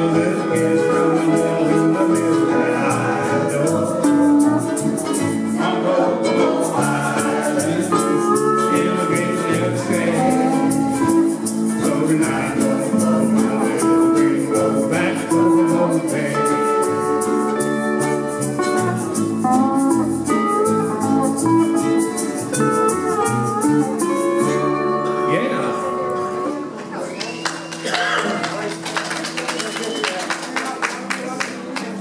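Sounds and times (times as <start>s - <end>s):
melody of held notes: 0.0s - 27.1s
ukuleles strumming: 0.0s - 32.0s.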